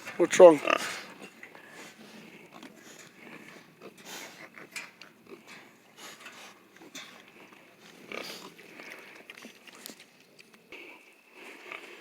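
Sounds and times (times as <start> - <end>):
pigs moving in pen: 0.0 - 12.0.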